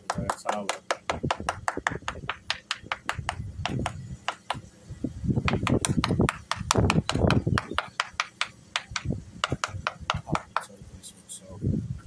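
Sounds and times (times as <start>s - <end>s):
knuckles rapping on boat hull: 0.0s - 4.6s, 5.5s - 10.7s.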